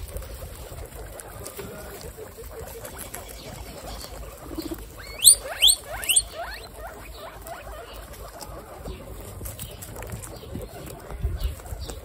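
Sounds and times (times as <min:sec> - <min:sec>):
guinea pig squealing: 0:00.0 - 0:12.0
guinea pigs chewing lettuce: 0:00.0 - 0:12.0.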